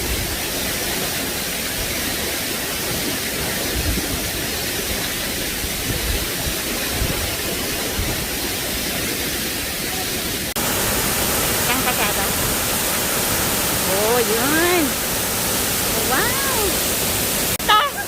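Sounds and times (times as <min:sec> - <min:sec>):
waterfall rushing up close: 0:00.0 - 0:18.0.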